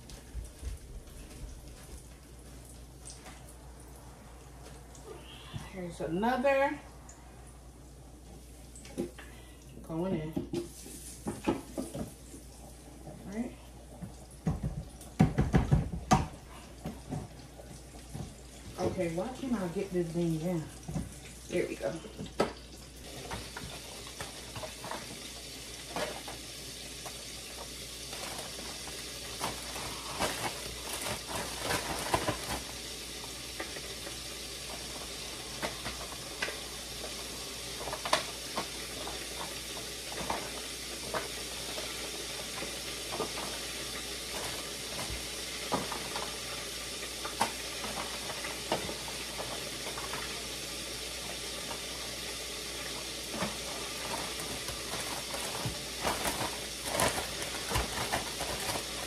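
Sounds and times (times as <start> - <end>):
fish frying in grease: 7.8 - 59.0.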